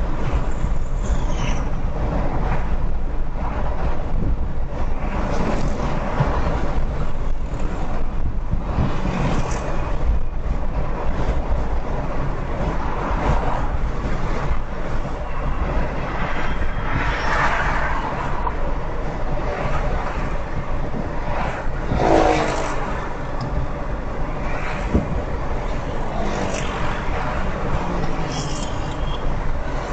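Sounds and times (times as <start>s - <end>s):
car driving road noise: 0.0s - 29.9s.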